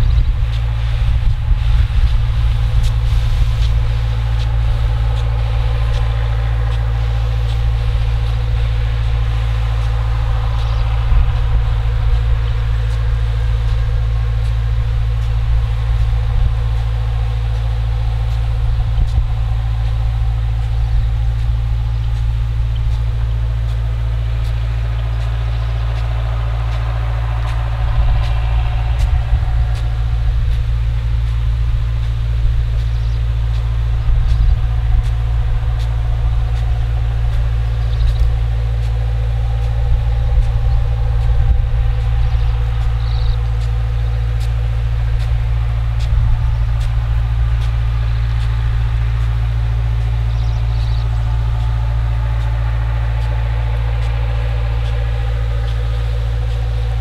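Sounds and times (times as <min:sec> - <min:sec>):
distant diesel engine running: 0:00.0 - 0:57.0.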